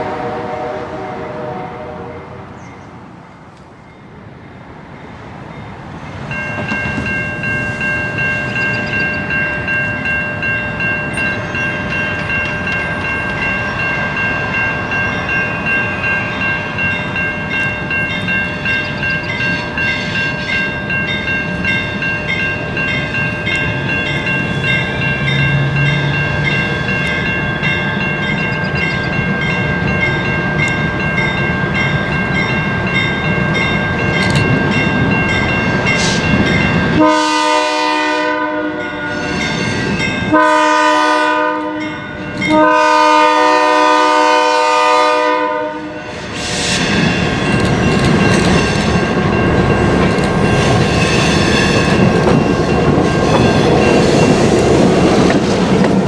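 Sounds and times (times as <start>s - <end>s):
approaching train rumble: 0.0s - 56.0s
crossing warning bell ringing: 3.8s - 55.8s.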